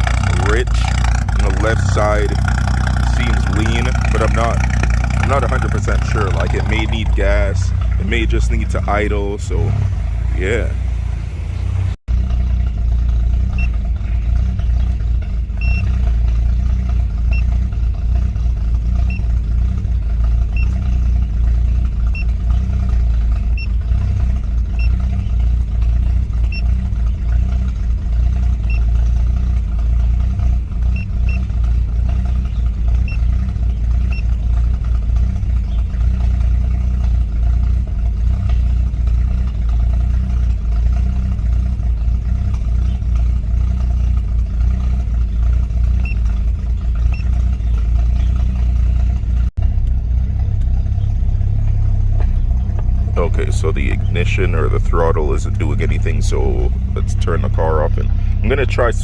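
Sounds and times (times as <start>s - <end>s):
car engine idling: 0.0s - 59.0s
faint engine ticking: 0.0s - 59.0s.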